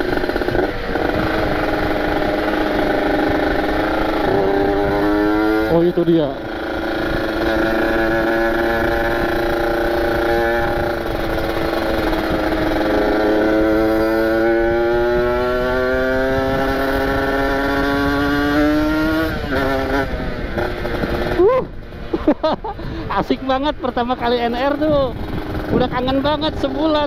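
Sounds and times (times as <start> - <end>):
two-stroke motorcycle engine: 0.0 - 27.0
wind and road noise: 0.0 - 27.0.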